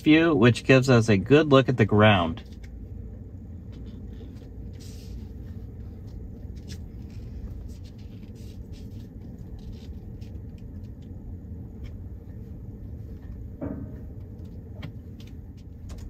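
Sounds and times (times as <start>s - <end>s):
tyres and suspension rumbling: 0.0s - 16.0s.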